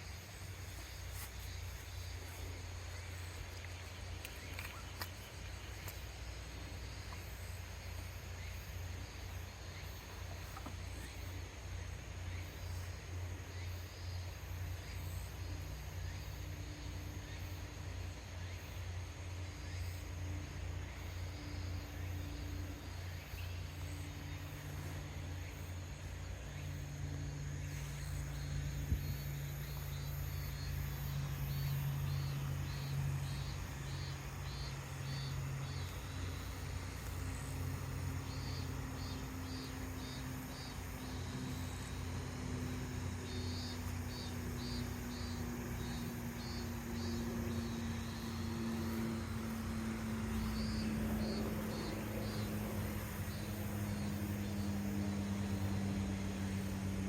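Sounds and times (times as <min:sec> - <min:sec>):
insect chirping: 0:00.0 - 0:57.0
low steady hum: 0:00.0 - 0:57.0.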